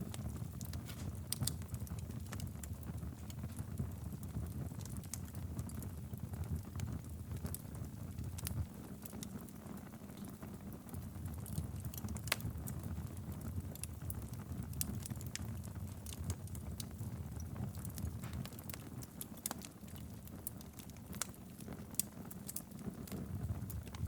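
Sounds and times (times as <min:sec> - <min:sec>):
fire crackling and popping: 0:00.0 - 0:24.0
wood fire burning: 0:00.0 - 0:24.0.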